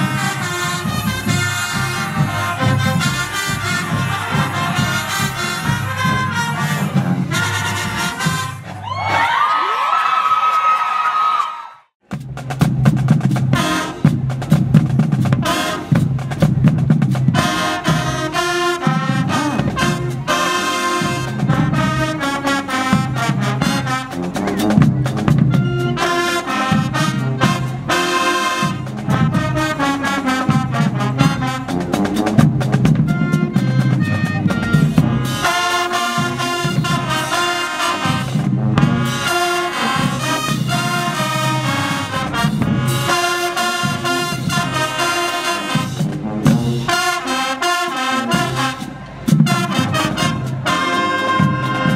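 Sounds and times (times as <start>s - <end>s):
drumline beat: 0.0s - 10.9s, 12.0s - 51.9s
marching band brass: 0.0s - 51.9s.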